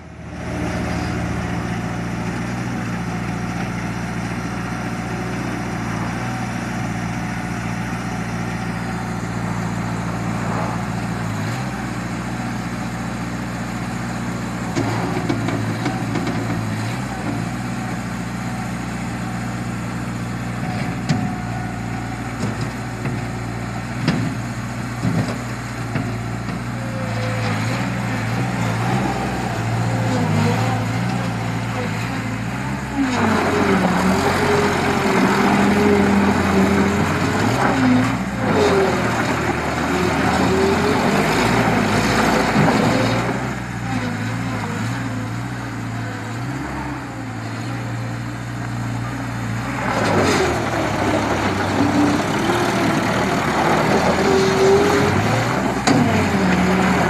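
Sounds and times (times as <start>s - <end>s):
wheel loader engine running: 0.0s - 57.0s.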